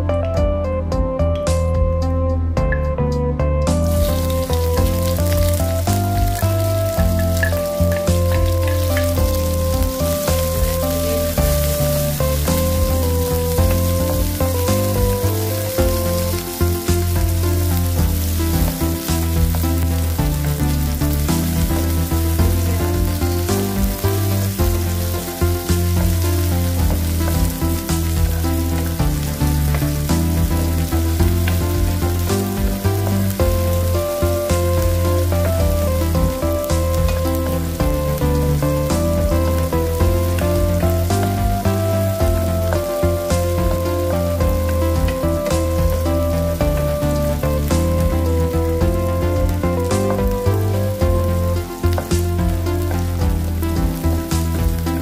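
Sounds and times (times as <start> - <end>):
background music with bass line: 0.0 - 55.0
onions sizzling in a frying pan: 3.8 - 55.0.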